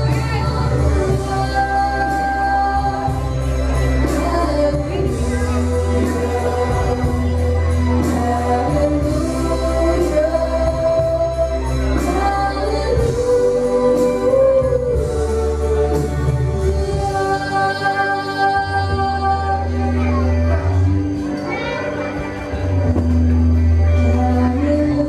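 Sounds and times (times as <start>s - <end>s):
woman singing into microphone: 0.0s - 23.2s, 23.8s - 25.0s
backing music: 0.0s - 25.0s.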